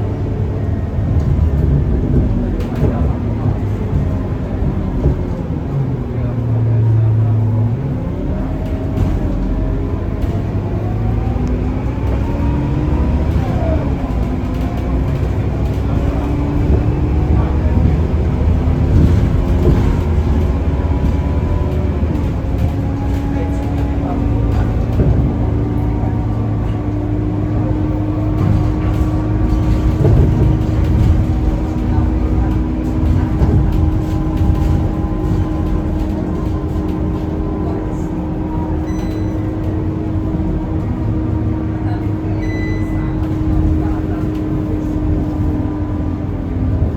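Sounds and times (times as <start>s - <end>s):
bus engine running: 0.0s - 46.9s.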